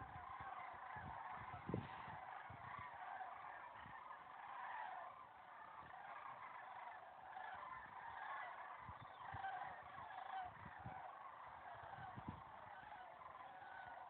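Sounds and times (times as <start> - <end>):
cranes calling in flight: 0.0 - 14.0.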